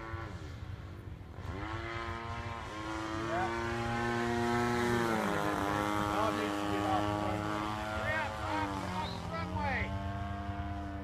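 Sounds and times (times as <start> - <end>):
airplane engine droning overhead: 0.0 - 11.0.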